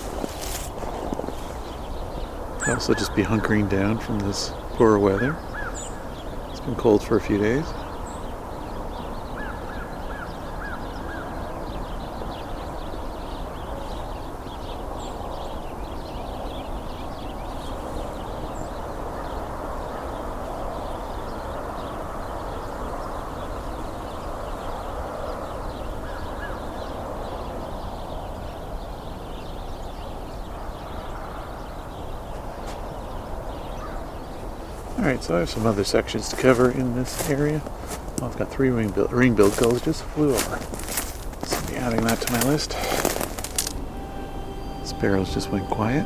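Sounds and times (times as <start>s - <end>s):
sparrows chirping: 0.0s - 46.0s.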